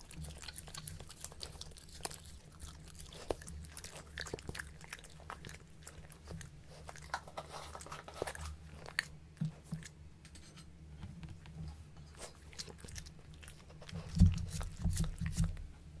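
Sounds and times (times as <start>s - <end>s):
dog chewing and smacking: 0.0s - 10.0s, 11.4s - 15.7s.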